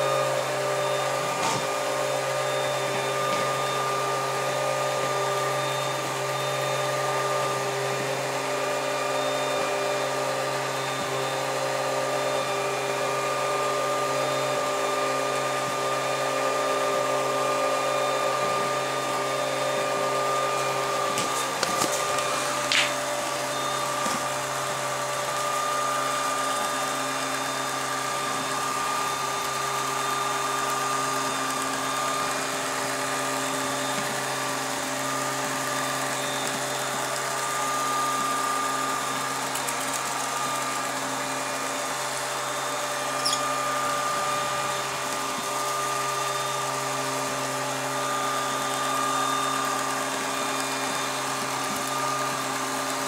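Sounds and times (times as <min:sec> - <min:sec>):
robot vacuum cleaner whining: 0:00.0 - 0:53.0.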